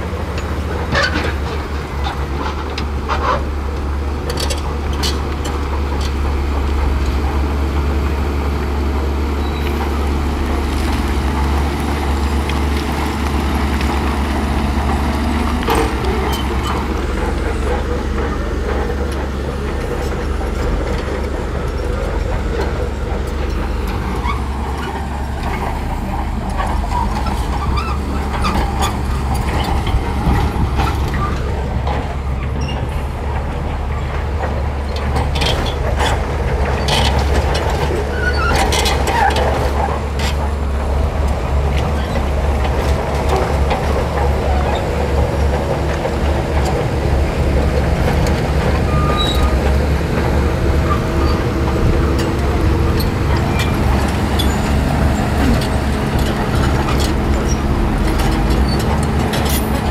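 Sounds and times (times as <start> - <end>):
diesel engines under load: 0.0 - 59.9
steel tracks clanking: 0.0 - 59.9.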